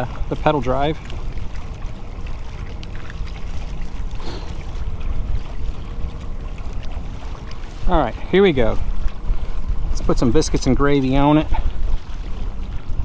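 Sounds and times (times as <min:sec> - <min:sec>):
faint steady hum: 0:00.0 - 0:13.0
water moving along hull: 0:00.0 - 0:13.0
wind rumbling on microphone: 0:00.0 - 0:13.0.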